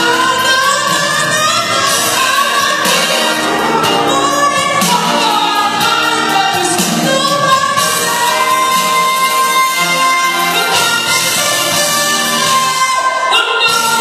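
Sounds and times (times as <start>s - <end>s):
music with singing: 0.0s - 14.0s.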